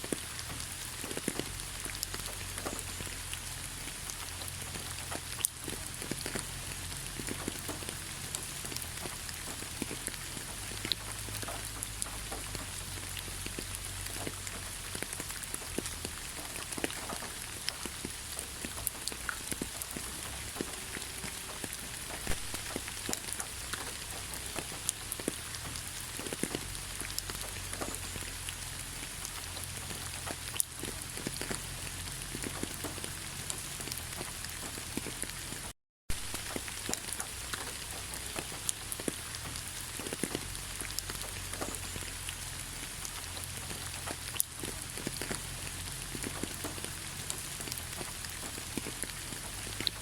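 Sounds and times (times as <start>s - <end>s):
rain falling: 0.0s - 50.0s
raindrops tapping: 0.0s - 50.0s.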